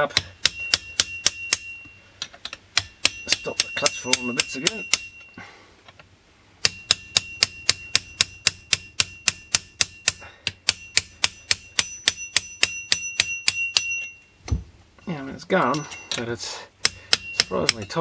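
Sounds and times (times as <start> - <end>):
hammer tapping metal chisel: 0.0 - 5.4, 6.6 - 14.3, 15.6 - 18.0.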